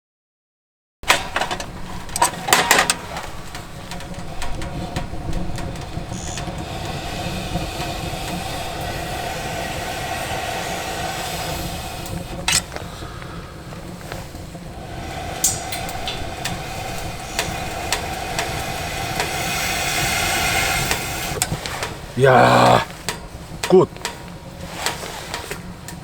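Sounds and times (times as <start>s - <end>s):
fire crackles: 1.0s - 26.0s
wood fire hissing: 1.0s - 26.0s.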